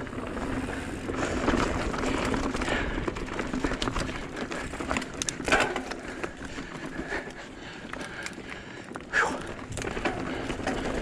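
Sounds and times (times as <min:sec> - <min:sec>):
bike clicking and rattling: 0:00.0 - 0:11.0
bike tyres crunching on gravel: 0:00.0 - 0:11.0.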